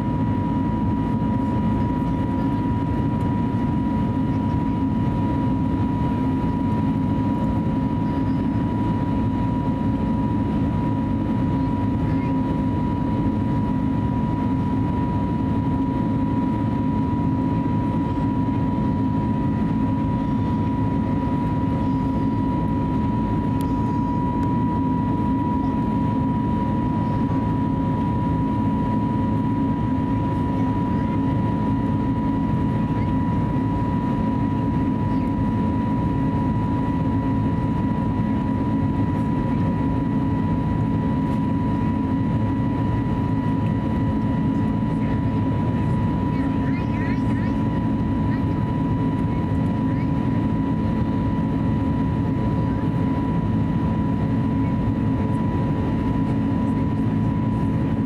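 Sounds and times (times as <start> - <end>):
airplane cabin rumble: 0.0 - 58.0
steady high whine: 0.0 - 58.0.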